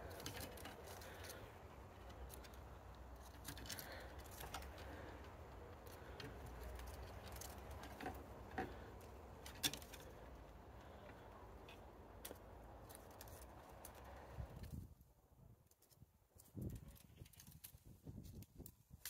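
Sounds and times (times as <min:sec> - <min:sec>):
low background rumble: 0:00.0 - 0:15.5.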